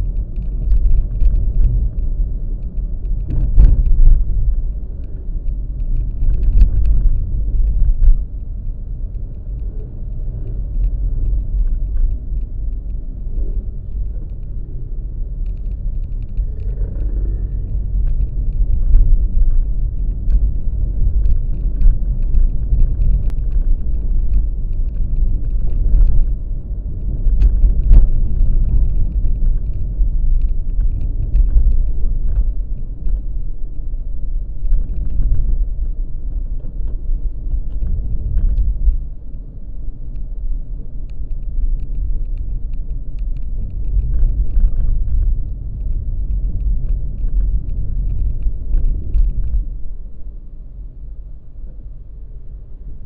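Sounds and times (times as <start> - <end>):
faint clicks and knocks: 0.0 - 49.8
road and wind noise: 0.0 - 53.0.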